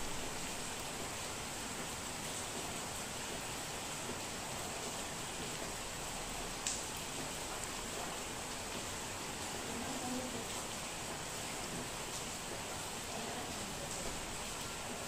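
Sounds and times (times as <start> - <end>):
steady rain hissing: 0.0 - 15.0.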